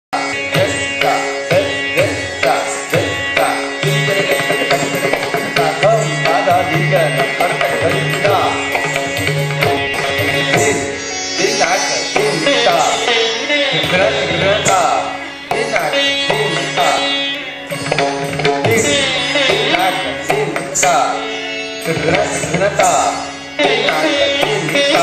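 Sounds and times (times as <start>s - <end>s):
gliding melodic instrument: 0.2s - 25.0s.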